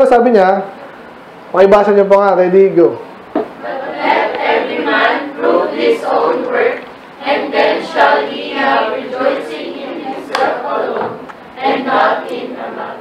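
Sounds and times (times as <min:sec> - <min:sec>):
congregation reading aloud in unison: 0:01.5 - 0:13.0.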